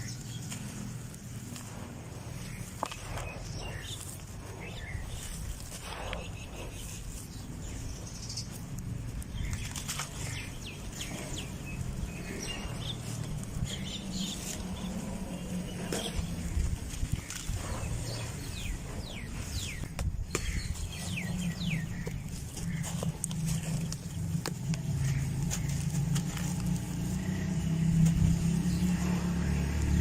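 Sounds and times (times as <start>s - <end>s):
dirt crumbling and crunching: 0.0s - 30.0s.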